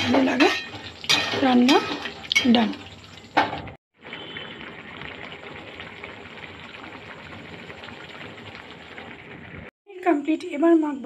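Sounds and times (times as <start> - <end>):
curry sizzling and bubbling: 0.0 - 9.8.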